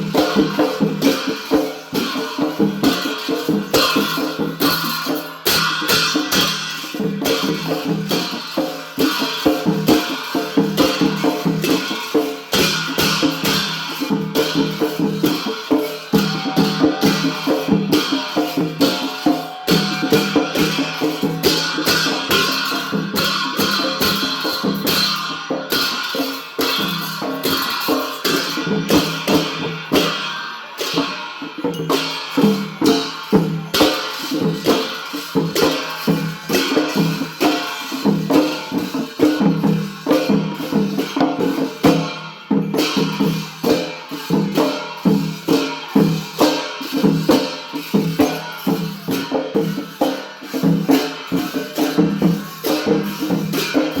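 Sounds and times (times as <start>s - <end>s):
drums and percussion playing: 0.0s - 54.0s.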